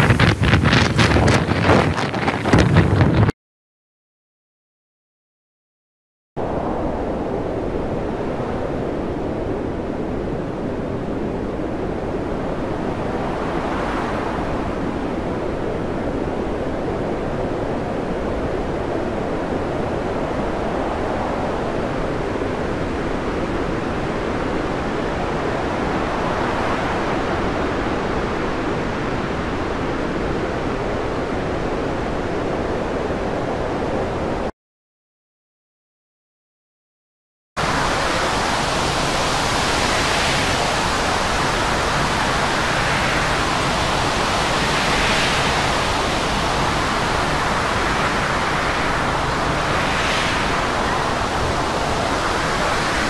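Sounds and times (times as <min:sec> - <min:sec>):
storm waves rushing: 0:00.0 - 0:03.3, 0:06.4 - 0:34.5, 0:37.6 - 0:53.0
wind: 0:00.0 - 0:03.3, 0:06.4 - 0:34.5, 0:37.6 - 0:53.0.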